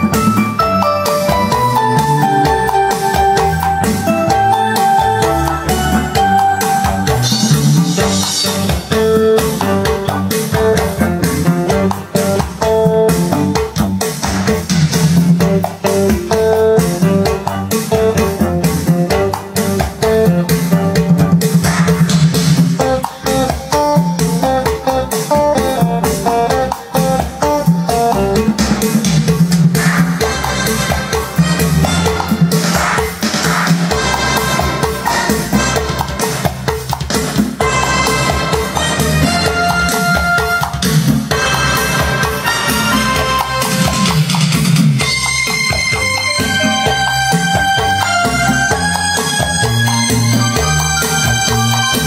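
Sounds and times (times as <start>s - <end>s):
guitar-led music with bass and drums: 0.0s - 52.0s.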